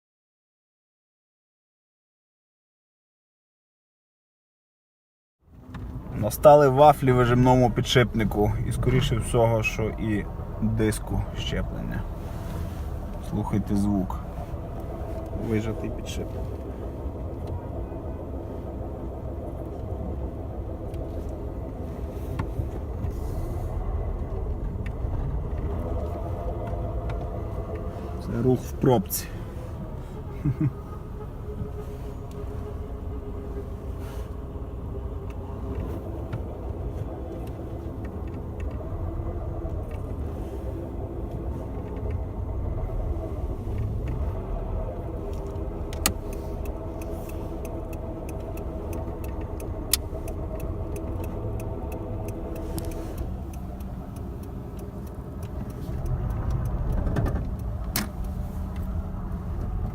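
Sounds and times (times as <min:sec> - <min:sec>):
car engine running: 0:05.5 - 0:59.9
steady bearing hum: 0:06.7 - 0:59.9.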